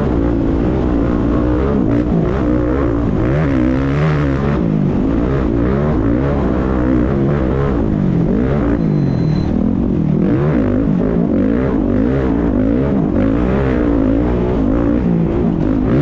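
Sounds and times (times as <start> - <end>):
race vehicle engine revving: 0.0 - 16.0
road noise: 0.0 - 16.0.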